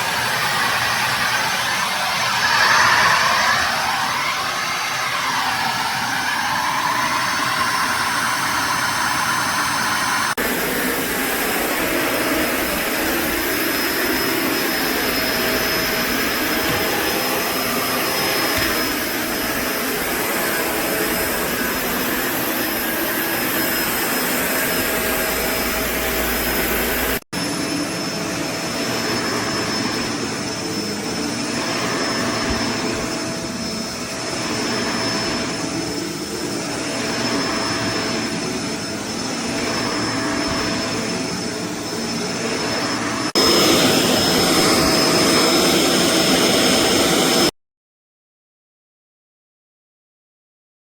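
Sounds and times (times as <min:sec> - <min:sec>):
vacuum cleaner running: 0:00.0 - 0:47.5.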